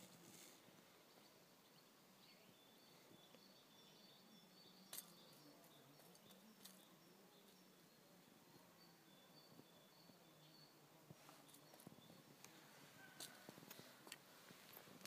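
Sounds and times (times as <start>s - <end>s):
faint bird chirps: 0.2s - 14.0s.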